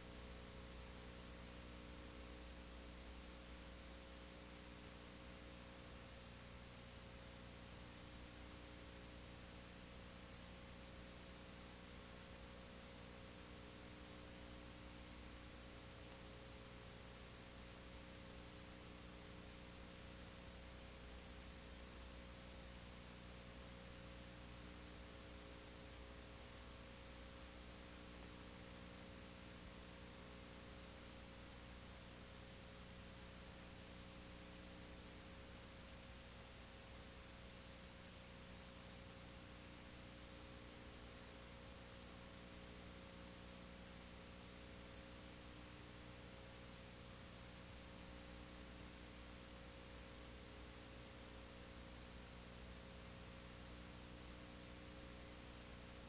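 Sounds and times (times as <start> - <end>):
faint hiss: 0.0 - 56.0
low electrical hum: 0.0 - 56.0.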